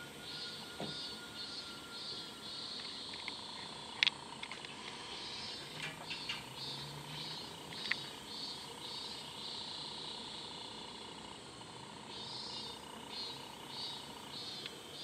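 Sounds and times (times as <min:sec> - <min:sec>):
cicadas pulsing chorus: 0:00.0 - 0:15.0.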